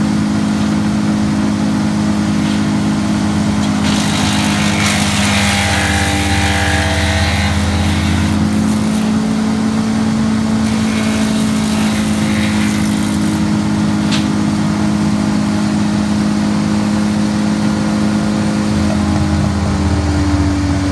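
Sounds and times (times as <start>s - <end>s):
tree chipper engine drone: 0.0s - 20.9s.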